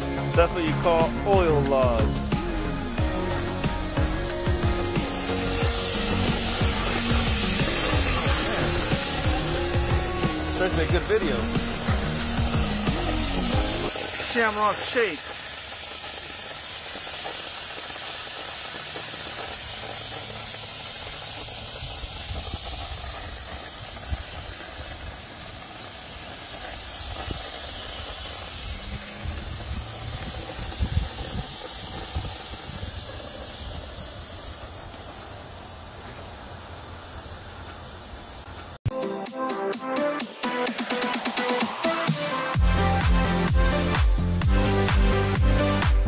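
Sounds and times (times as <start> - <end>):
gas hissing: 0.0 - 46.0.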